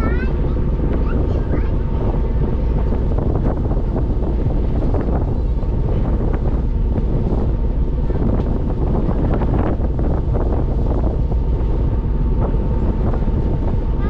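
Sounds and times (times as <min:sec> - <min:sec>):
ship engine running: 0:00.0 - 0:14.0
water rushing past hull: 0:00.0 - 0:14.0
wind buffeting microphone: 0:00.0 - 0:14.0.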